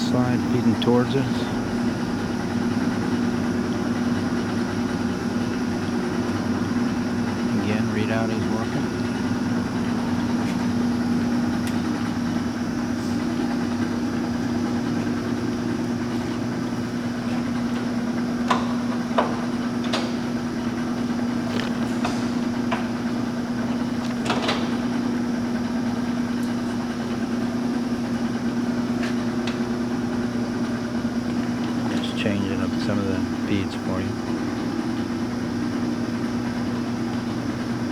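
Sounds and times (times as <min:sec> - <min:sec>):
lathe motor humming: 0:00.0 - 0:37.9.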